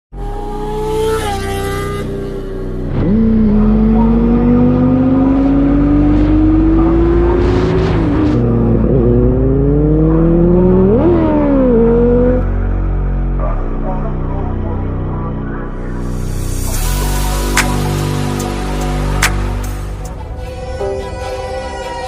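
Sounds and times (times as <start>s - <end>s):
motorcycle engine accelerating: 0.1s - 20.0s.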